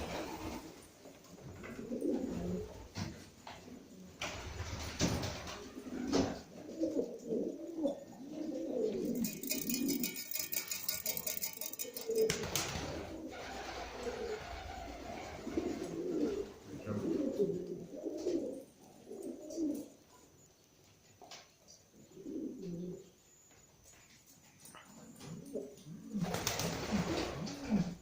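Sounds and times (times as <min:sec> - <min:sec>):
pigeons cooing: 0:00.0 - 0:20.0, 0:21.9 - 0:23.2, 0:24.9 - 0:28.0.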